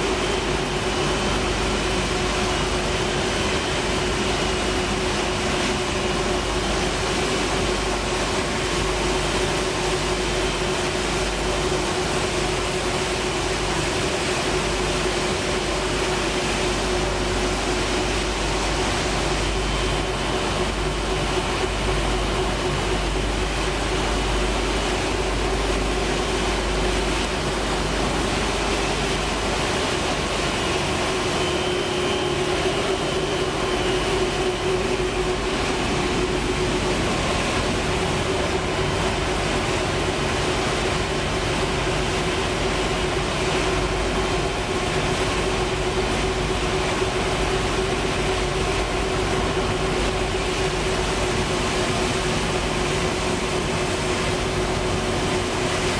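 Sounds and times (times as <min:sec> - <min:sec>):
machinery droning and humming: 0:00.0 - 0:55.9.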